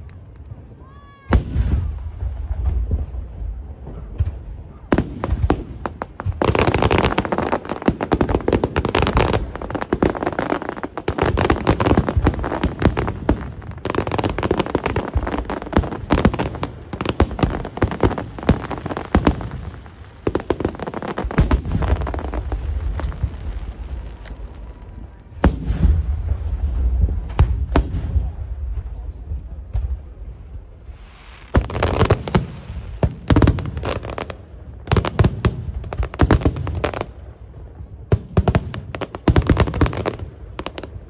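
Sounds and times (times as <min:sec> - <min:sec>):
firework bangs: 0:00.0 - 0:41.0.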